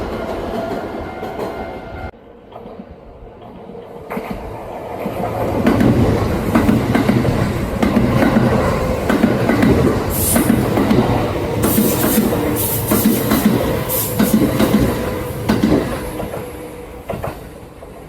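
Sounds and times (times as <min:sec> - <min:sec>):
train wheels clacking: 0:02.5 - 0:18.0.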